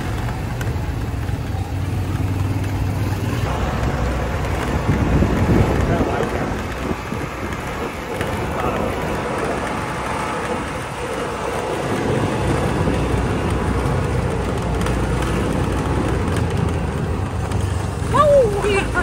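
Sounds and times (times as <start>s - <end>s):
continuous rushing noise: 0.0s - 19.0s
vehicle engine running: 0.0s - 19.0s.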